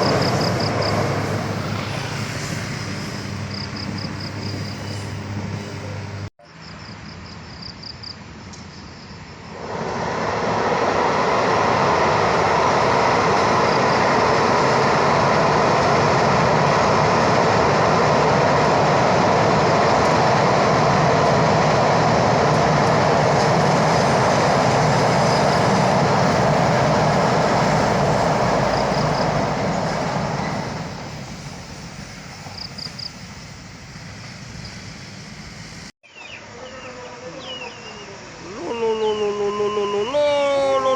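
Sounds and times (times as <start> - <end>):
train rumbling past: 0.0 - 35.9.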